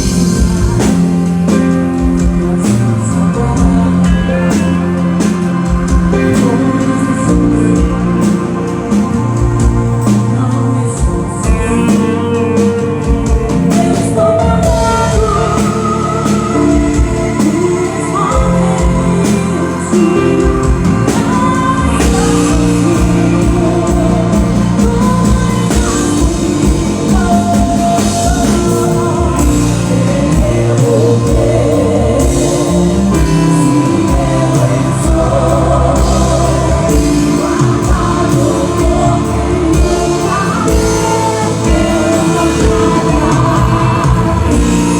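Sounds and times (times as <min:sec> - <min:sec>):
drums beating: 0:00.0 - 0:44.9
gospel singing over a band: 0:00.0 - 0:44.9.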